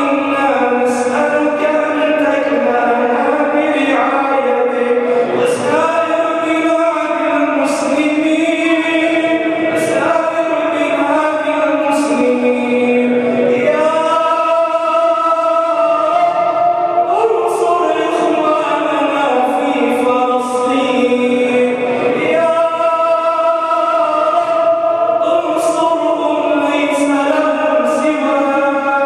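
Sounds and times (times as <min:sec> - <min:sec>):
man chanting through microphone: 0:00.0 - 0:29.0.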